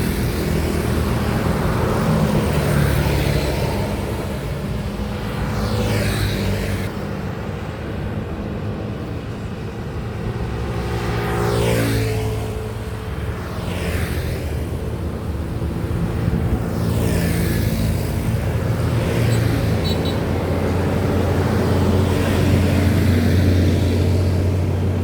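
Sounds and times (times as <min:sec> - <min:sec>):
highway traffic: 0:00.0 - 0:25.0.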